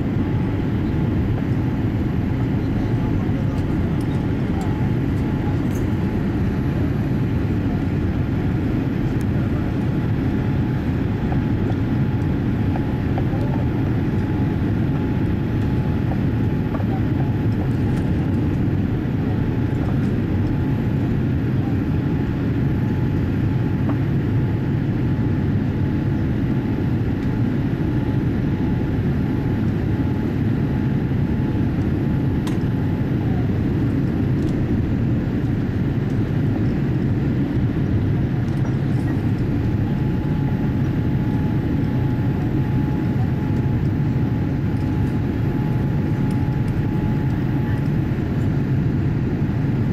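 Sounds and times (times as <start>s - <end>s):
engine and airflow rumble in cabin: 0.0s - 49.9s
faint steady whine: 0.0s - 49.9s.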